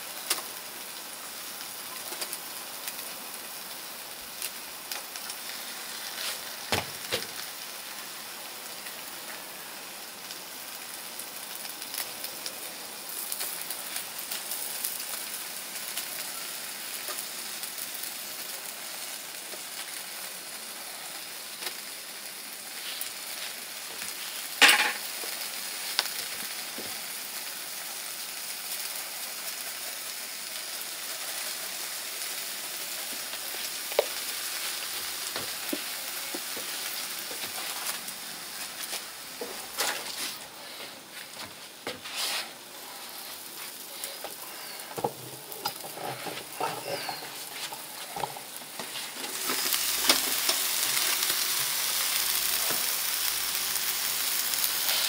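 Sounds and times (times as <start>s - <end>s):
beef sizzling on grill: 0.0s - 55.0s.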